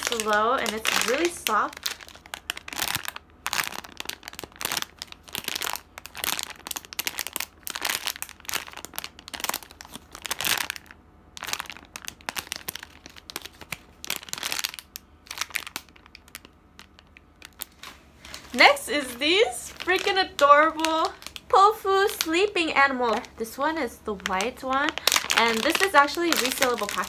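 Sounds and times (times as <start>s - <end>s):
plastic bag crinkling: 0.0s - 27.0s.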